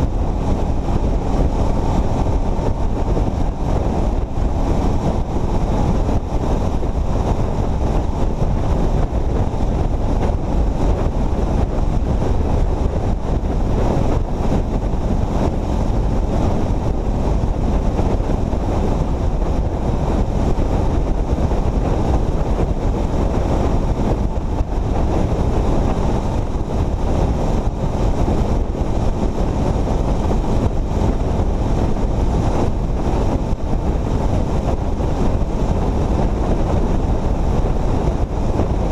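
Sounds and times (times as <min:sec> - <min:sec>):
motorcycle road and running noise: 0:00.0 - 0:38.9
wind buffeting microphone: 0:00.0 - 0:38.9.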